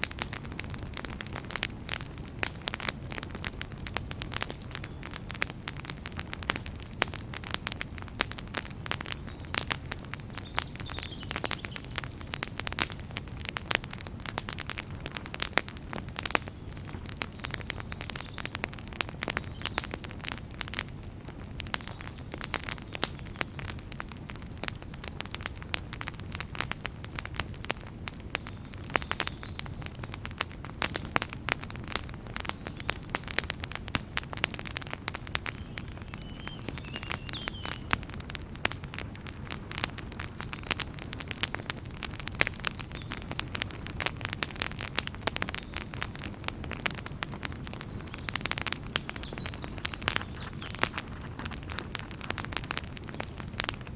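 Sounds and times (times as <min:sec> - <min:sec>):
low rumble of flames: 0:00.0 - 0:53.9
wood fire crackling: 0:00.0 - 0:53.9.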